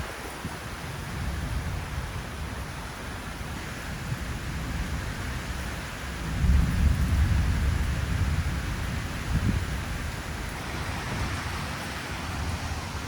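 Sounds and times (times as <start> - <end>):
thunderstorm rumble and hiss: 0.0 - 13.0.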